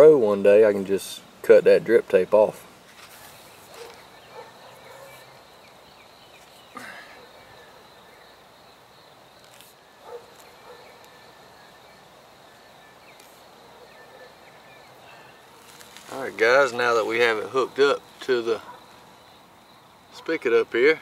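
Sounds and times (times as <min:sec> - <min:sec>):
high insect drone: 0:01.9 - 0:21.0.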